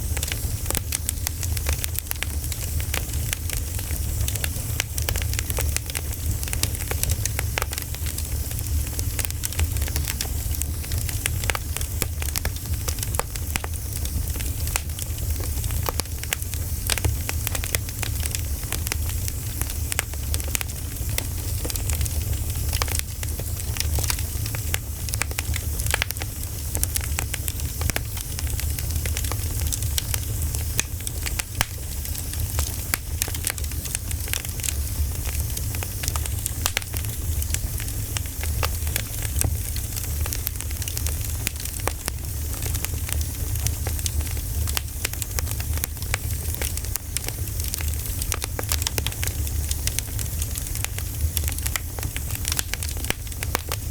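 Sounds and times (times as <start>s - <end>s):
bonfire crackling: 0.0s - 53.9s.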